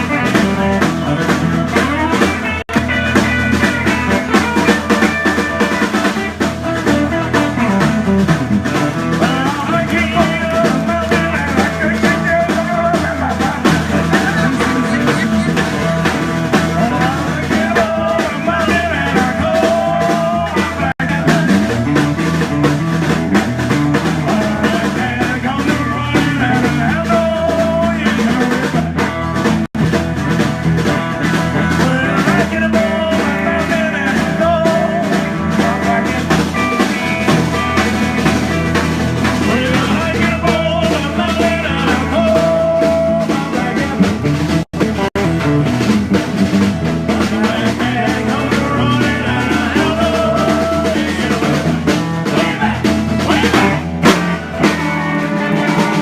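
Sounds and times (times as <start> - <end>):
rock band playing: 0.0 - 56.0.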